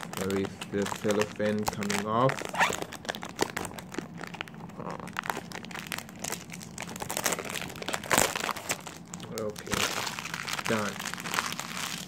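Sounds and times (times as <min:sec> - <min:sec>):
cellophane crinkling: 0:00.0 - 0:12.0.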